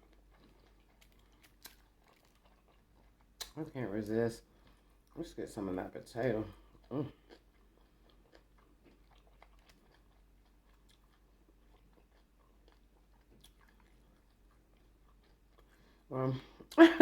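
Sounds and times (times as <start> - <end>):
chewing food: 0.0 - 16.8.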